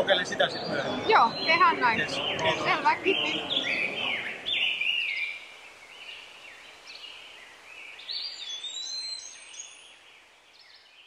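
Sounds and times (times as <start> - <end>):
birds singing: 0.0 - 11.0
faint steady hiss: 0.0 - 11.0.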